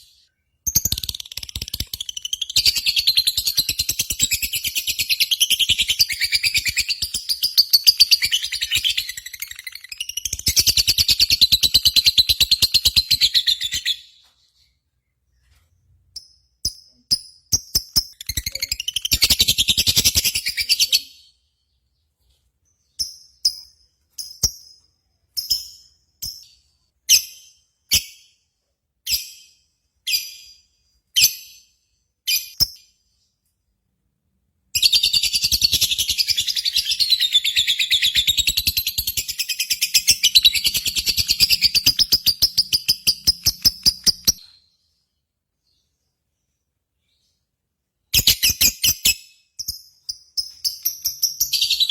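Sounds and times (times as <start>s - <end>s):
sharp bird chirps: 0.0s - 28.4s, 34.8s - 47.4s, 48.1s - 51.9s.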